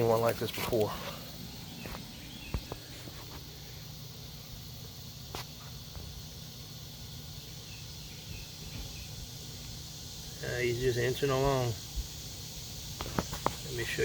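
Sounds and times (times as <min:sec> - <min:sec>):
insects buzzing and chirring: 0:00.0 - 0:14.0.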